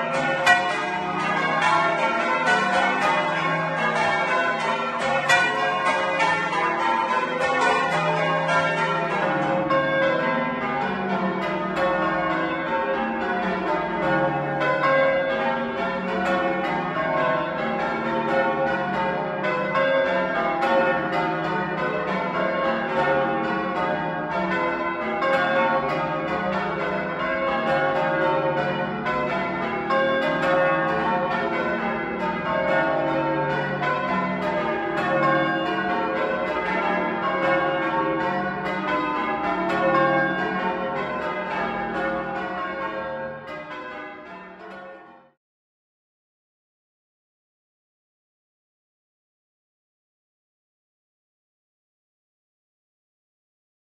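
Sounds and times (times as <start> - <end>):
church bells ringing changes: 0.0 - 45.4.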